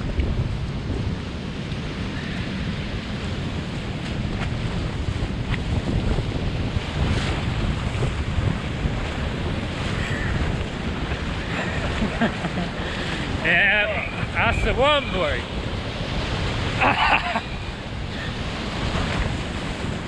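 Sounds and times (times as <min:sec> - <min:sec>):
sea surf breaking on shore: 0:00.0 - 0:20.0
wind buffeting microphone: 0:00.0 - 0:20.0.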